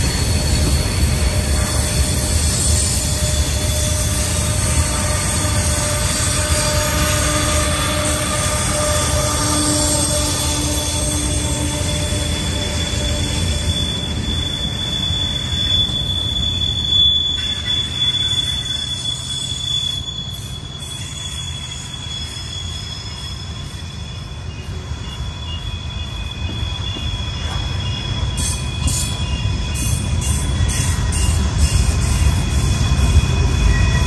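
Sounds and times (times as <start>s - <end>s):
train cars rumbling: 0.0s - 34.0s
wheel flanges squealing: 0.0s - 34.0s.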